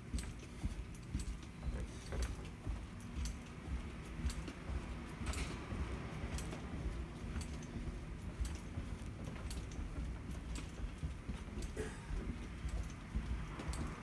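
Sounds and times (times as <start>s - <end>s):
keys jingling: 0.0s - 14.0s.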